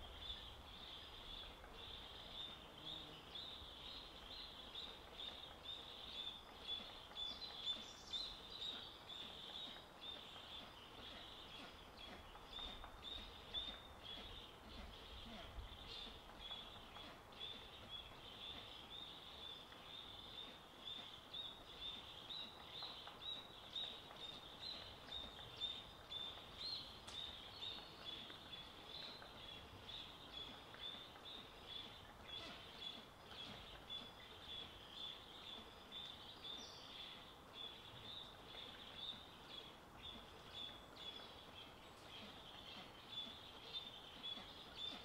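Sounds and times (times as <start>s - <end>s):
faint forest ambience: 0.0s - 45.0s.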